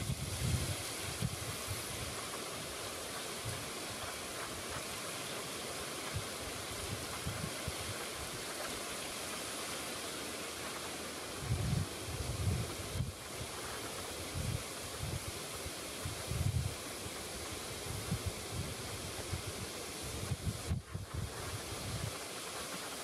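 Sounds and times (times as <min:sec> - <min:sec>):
wind rumble on microphone: 0:00.0 - 0:05.0, 0:05.9 - 0:08.8, 0:11.3 - 0:23.0
river rushing over rapids: 0:00.0 - 0:23.0.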